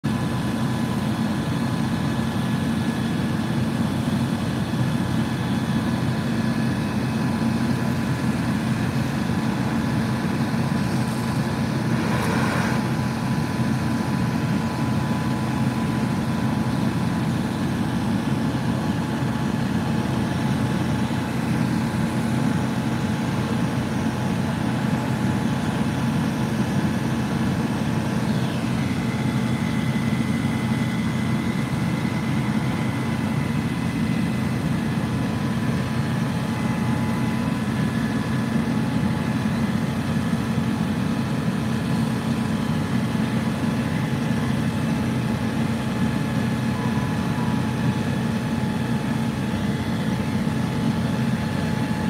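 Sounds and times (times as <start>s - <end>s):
diesel engines humming: 0.1s - 52.0s.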